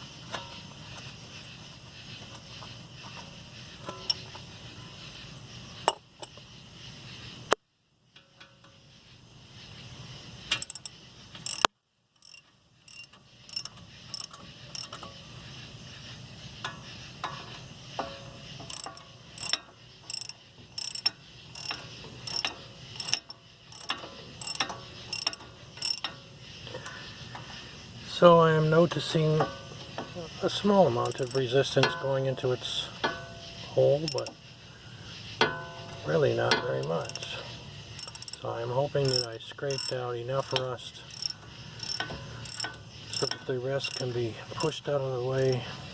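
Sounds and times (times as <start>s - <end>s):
ratchet wrench clicking: 2.0s - 7.6s, 9.8s - 27.8s, 29.2s - 45.9s.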